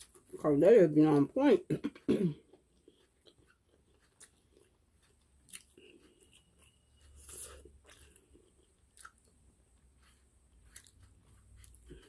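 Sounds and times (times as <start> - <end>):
person chewing food: 0.0 - 0.4, 2.0 - 12.0.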